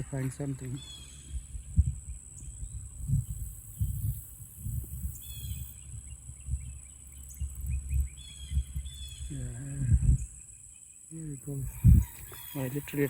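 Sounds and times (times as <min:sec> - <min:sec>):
low thumps and rumble: 0:00.0 - 0:10.5, 0:11.7 - 0:12.4
bird calling: 0:00.0 - 0:13.0.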